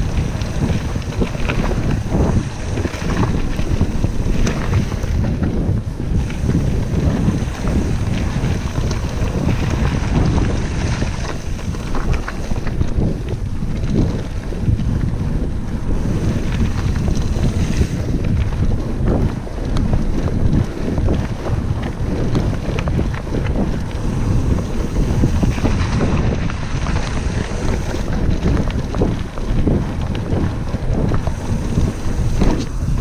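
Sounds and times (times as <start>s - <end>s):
mountain bike rattling on trail: 0.0s - 33.0s
wind buffeting microphone: 0.0s - 33.0s.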